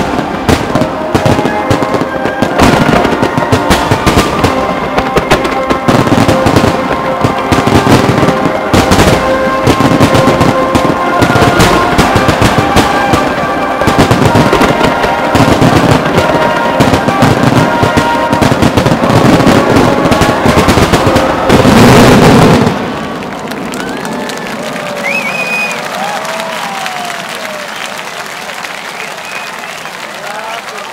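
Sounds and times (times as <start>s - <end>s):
fireworks banging and crackling: 0.0s - 30.9s.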